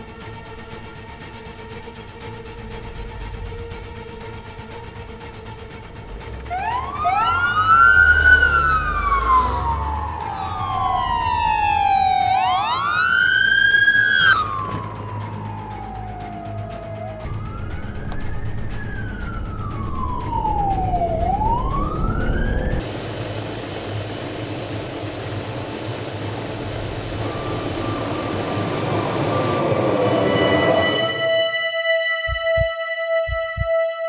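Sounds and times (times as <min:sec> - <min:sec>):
music with sustained tones: 0:00.0 - 0:34.0
emergency siren wailing: 0:06.1 - 0:34.0.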